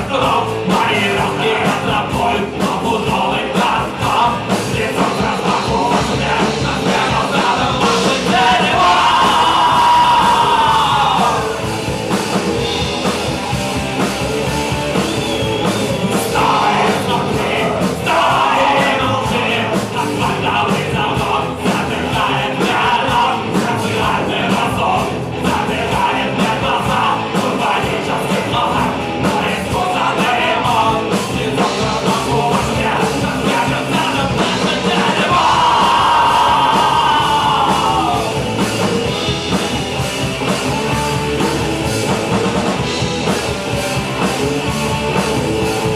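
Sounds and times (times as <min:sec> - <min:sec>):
loud singing and shouting: 0:00.0 - 0:45.9
punk rock band playing: 0:00.0 - 0:45.9.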